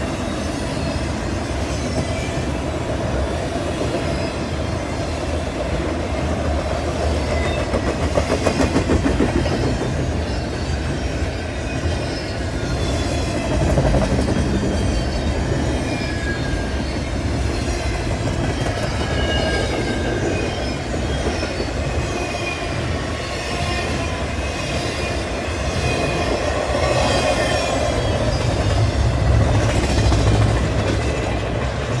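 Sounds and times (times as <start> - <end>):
freight train rumbling: 0.0 - 32.0
wheels clacking on rails: 0.0 - 32.0.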